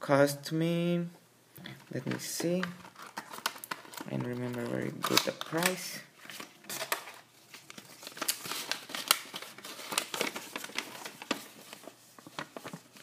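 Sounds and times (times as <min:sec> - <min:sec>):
paper crinkling and rustling: 0:01.8 - 0:13.0.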